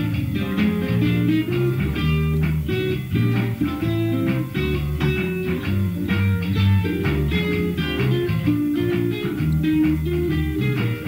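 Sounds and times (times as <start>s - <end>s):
bass guitar line: 0.0s - 11.0s
electric guitar chords strummed: 0.0s - 11.0s.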